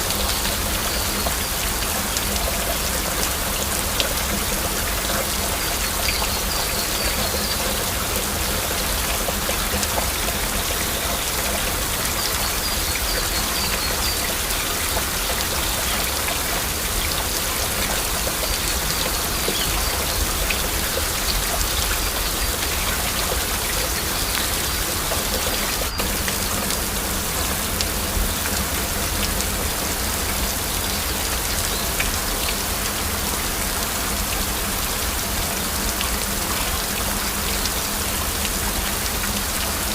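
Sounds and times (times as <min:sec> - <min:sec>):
raindrops ticking: 0:00.0 - 0:39.7
heavy rain: 0:00.0 - 0:39.9.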